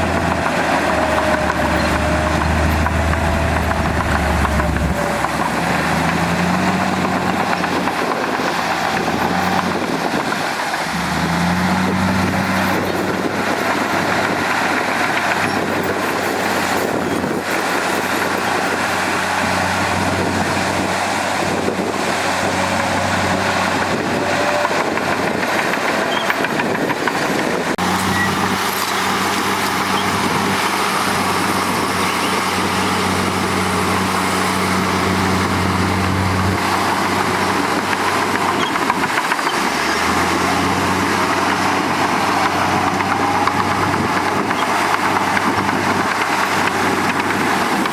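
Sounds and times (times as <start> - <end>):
heavy diesel engines under load: 0.0 - 47.9.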